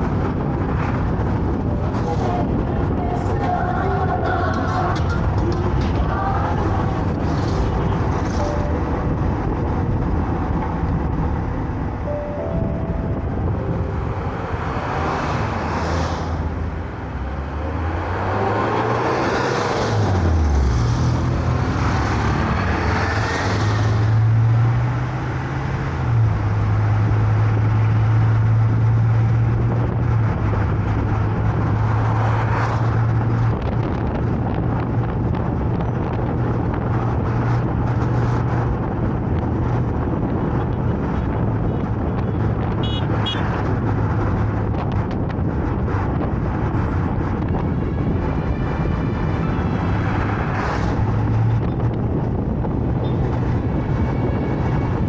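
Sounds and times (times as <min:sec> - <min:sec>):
car engine hum: 0:00.0 - 0:55.0
tyre road noise: 0:00.0 - 0:55.0
vehicles passing: 0:00.0 - 0:55.0.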